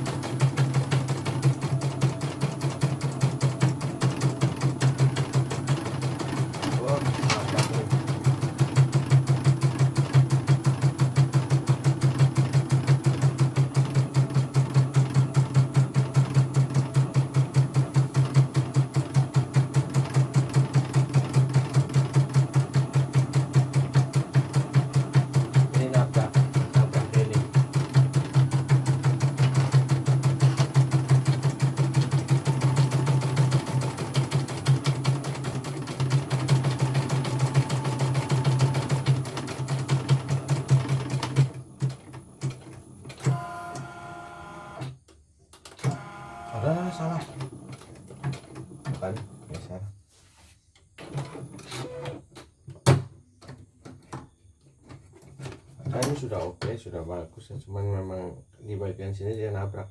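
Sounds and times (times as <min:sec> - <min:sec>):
embroidery machine stitching: 0:00.0 - 0:45.0, 0:45.7 - 0:49.5.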